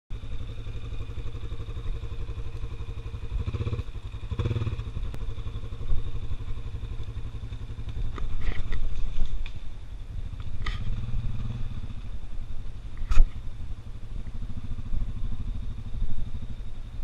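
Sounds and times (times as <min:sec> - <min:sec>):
atv engine running: 0:00.1 - 0:17.0.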